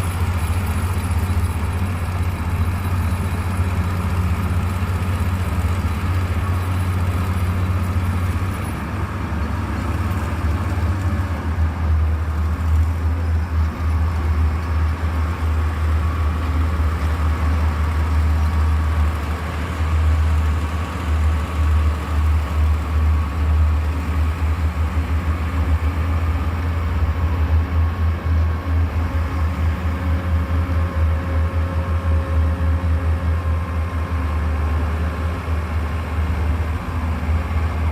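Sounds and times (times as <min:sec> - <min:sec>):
diesel engine rumbling: 0:00.0 - 0:37.9.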